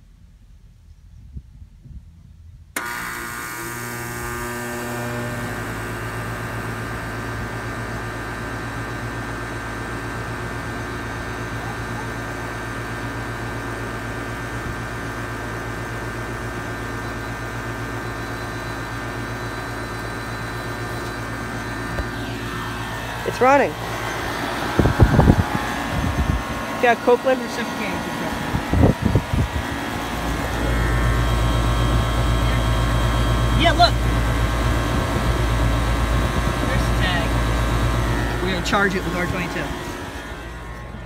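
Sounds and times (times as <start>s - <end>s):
electrical hum: 0.0s - 41.0s
air conditioner unit running: 2.2s - 41.0s.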